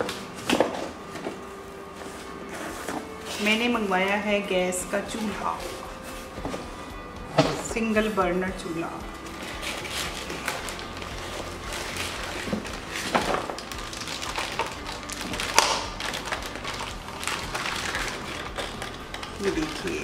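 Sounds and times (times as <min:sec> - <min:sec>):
plastic wrapping crinkling: 0:00.0 - 0:06.8, 0:09.1 - 0:20.0
background music: 0:00.0 - 0:20.0.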